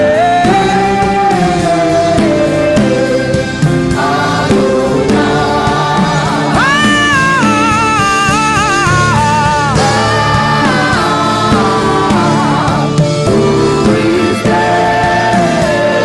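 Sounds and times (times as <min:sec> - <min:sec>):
choir-like voices: 0:00.0 - 0:16.0
sustained backing music: 0:00.0 - 0:16.0.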